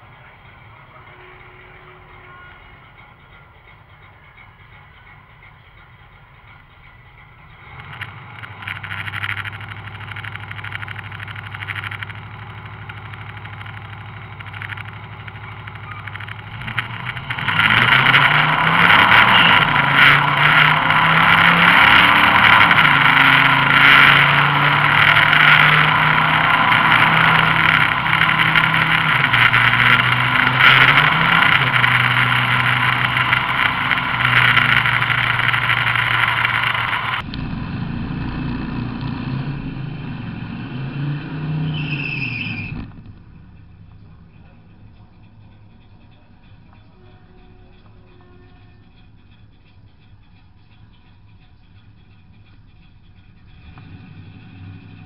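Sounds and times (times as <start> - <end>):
truck engine idling: 0.0 - 40.4, 42.2 - 55.0
engine popping and crackling: 0.0 - 55.0
truck engine accelerating hard: 6.4 - 46.8, 51.0 - 55.0.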